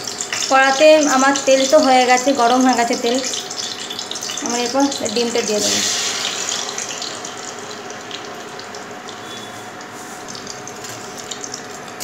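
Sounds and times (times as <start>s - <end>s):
egg sizzling in hot oil: 0.0s - 12.0s
oil crackles: 0.0s - 12.0s.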